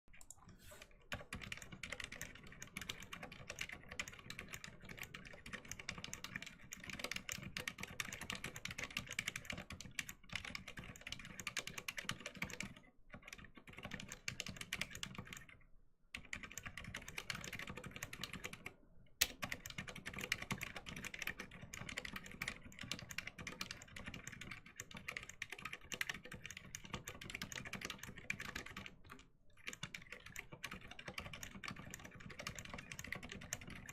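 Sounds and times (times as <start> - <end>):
fast typing on mechanical keyboard: 1.1 - 15.6, 16.2 - 18.7, 19.3 - 33.9.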